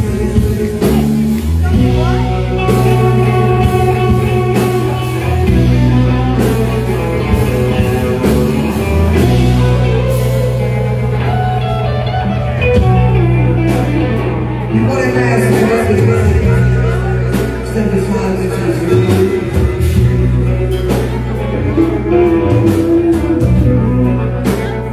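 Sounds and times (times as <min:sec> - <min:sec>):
bass: 0:00.0 - 0:24.9
electric guitar: 0:00.0 - 0:24.9
saxophone: 0:00.0 - 0:24.9.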